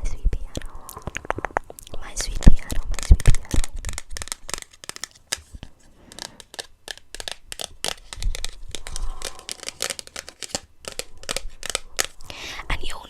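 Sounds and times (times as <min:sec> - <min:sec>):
packaging crinkling and tearing: 0:00.9 - 0:12.3.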